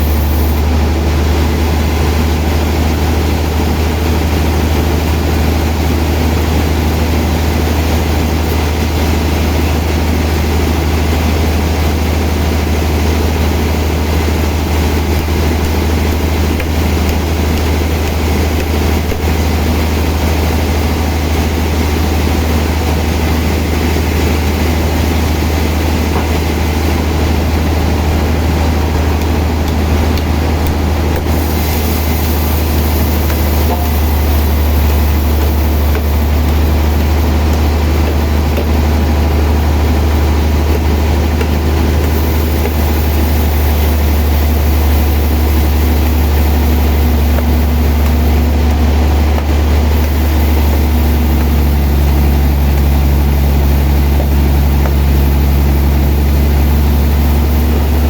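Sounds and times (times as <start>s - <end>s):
sawmill machinery sawing a log: 0.0s - 58.0s.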